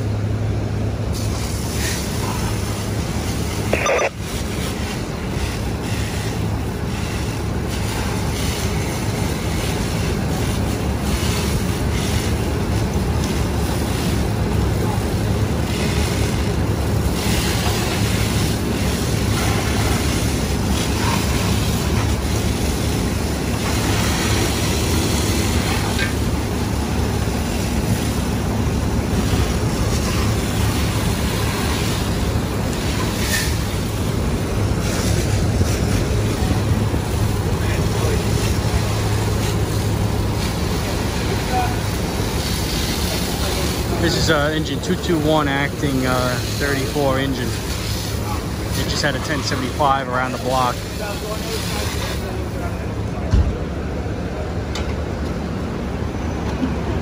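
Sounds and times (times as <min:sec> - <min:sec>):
heavy engine rumbling: 0:00.0 - 0:57.0
fire hose spraying hiss: 0:00.6 - 0:54.4.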